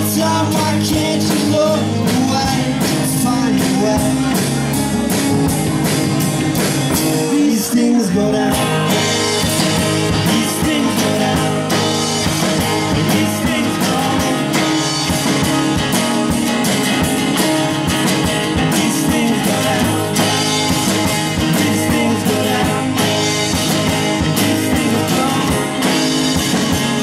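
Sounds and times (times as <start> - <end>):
electric bass guitar: 0.0 - 27.0
strummed acoustic guitar: 0.0 - 27.0.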